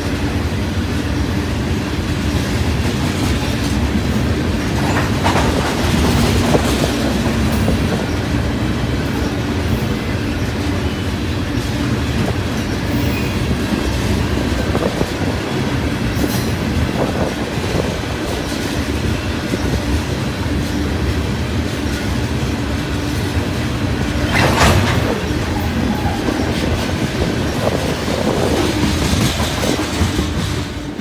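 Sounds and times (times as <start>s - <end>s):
freight train wheels clattering: 0.0s - 31.0s.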